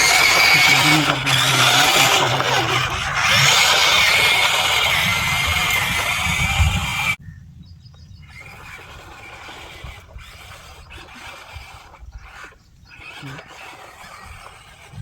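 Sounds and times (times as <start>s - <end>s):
electric motor whining: 0.0s - 7.2s, 8.2s - 15.0s
faint whirring and scraping: 0.0s - 15.0s.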